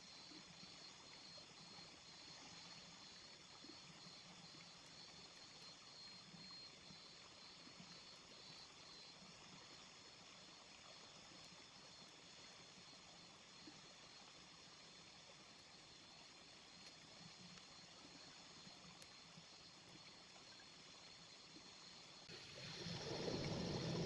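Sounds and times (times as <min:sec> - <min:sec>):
small river flowing: 0:00.0 - 0:24.0.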